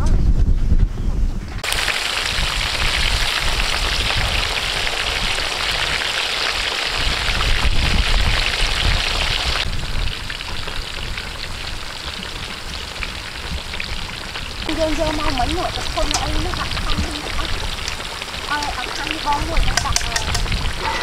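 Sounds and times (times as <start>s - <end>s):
oil sizzling and crackling: 1.6s - 21.0s.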